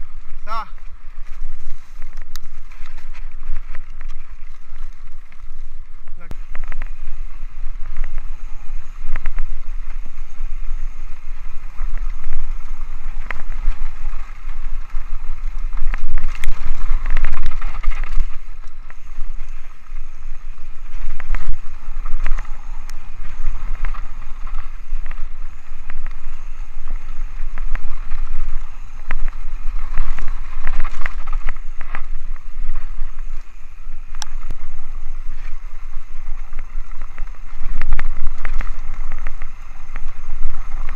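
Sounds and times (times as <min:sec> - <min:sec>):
bike tyres on dirt and gravel: 0:00.0 - 0:40.9
wind buffeting microphone: 0:00.0 - 0:40.9.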